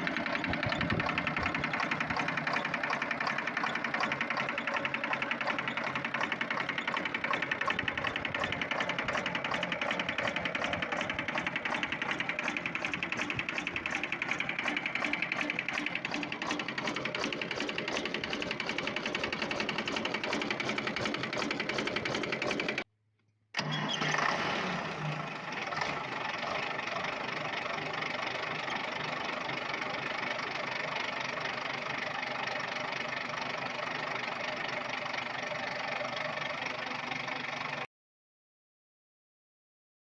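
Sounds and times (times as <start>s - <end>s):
diesel engine knocking: 0.0s - 22.8s, 25.3s - 37.9s.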